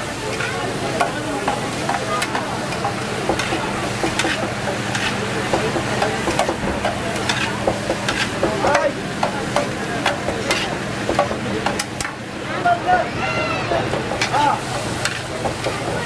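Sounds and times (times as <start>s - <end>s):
food sizzling on hot metal: 0.0s - 16.0s
metal utensils scraping a griddle: 0.2s - 12.2s, 13.9s - 16.0s.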